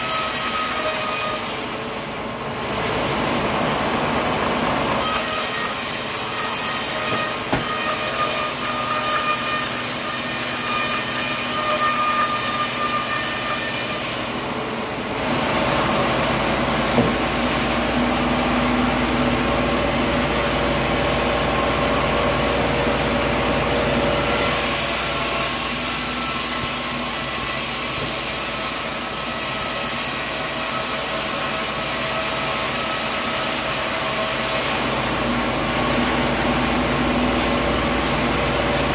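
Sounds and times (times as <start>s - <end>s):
sawmill machinery sawing log: 0.0s - 38.9s.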